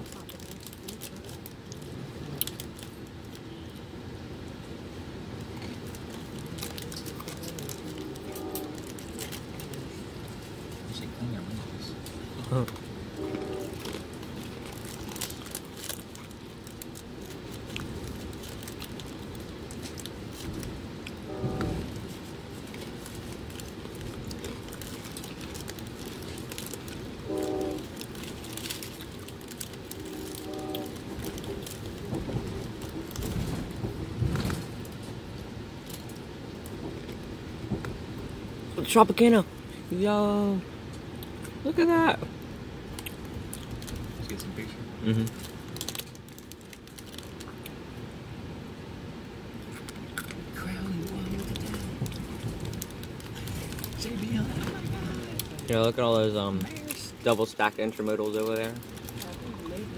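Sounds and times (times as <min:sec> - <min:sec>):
train car rumbling on track: 0:00.0 - 0:59.9.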